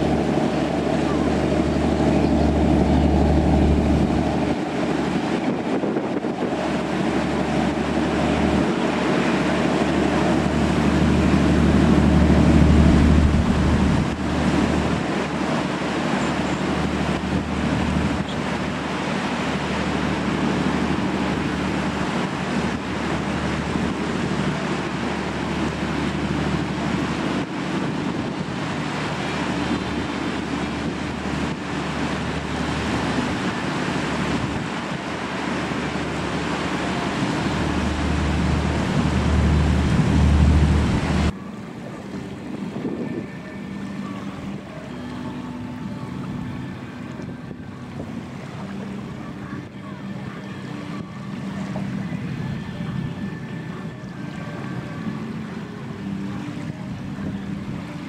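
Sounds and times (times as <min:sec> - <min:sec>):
ferry engines droning: 0:00.0 - 0:58.0
waves washing: 0:00.0 - 0:58.0
wind on microphone: 0:00.0 - 0:58.0.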